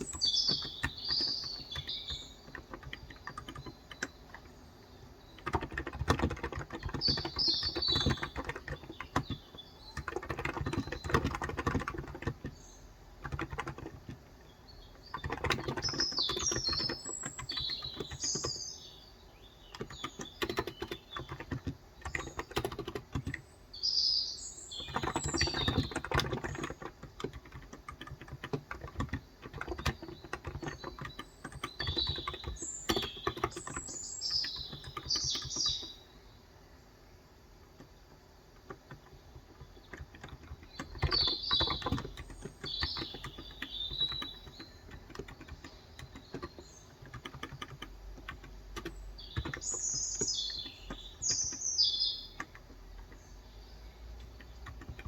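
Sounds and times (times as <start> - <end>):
keyboard typing: 0.0 - 19.0, 19.6 - 23.5, 24.7 - 36.0, 37.7 - 55.0
birds chirping: 0.0 - 55.0.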